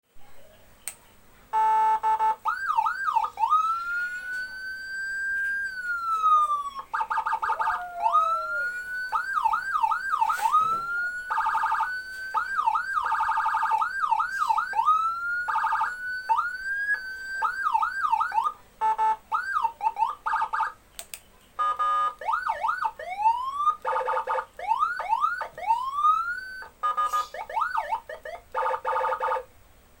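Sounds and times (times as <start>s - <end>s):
electronic siren yelping and wailing: 1.6s - 20.8s, 21.6s - 29.5s.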